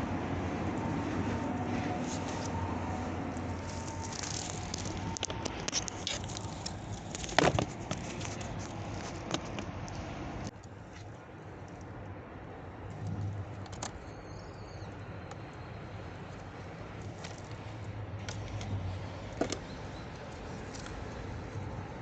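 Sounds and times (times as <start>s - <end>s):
low hum: 0.0s - 7.3s, 9.7s - 22.0s.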